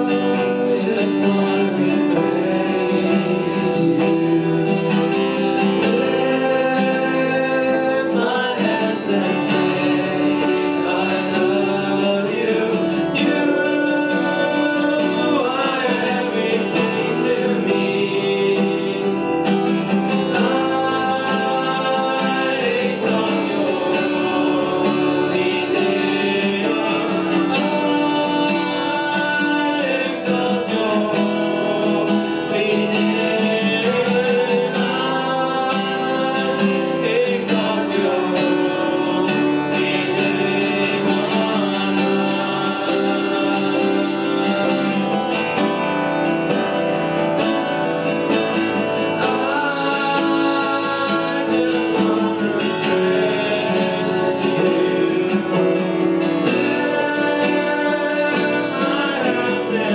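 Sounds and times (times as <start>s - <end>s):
man singing: 0.0s - 59.9s
strummed acoustic guitar: 0.0s - 59.9s.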